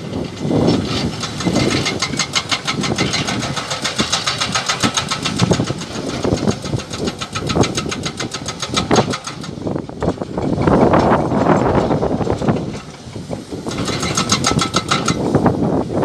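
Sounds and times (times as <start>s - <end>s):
diesel engine: 0.0s - 16.0s
hydraulic breaker hammer pounding rock: 0.0s - 16.0s.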